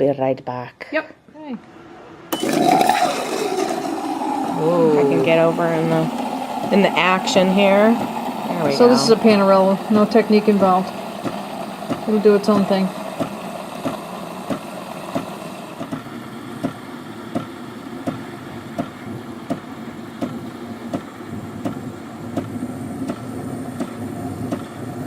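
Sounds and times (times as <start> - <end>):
steam wand hissing: 2.4 - 25.0.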